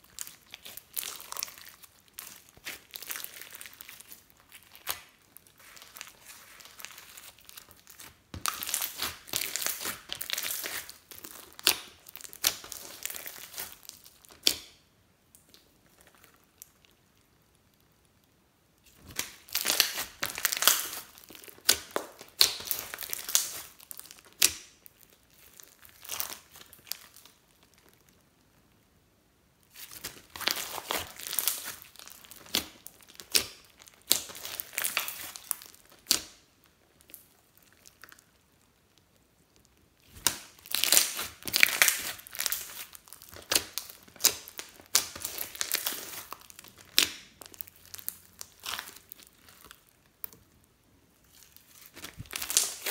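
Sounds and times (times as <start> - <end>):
slime crackling and popping: 0.0 - 28.7, 29.6 - 52.9.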